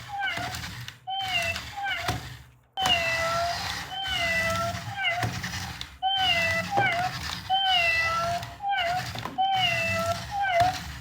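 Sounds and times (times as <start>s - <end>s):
toy robot cat meowing: 0.0s - 11.0s.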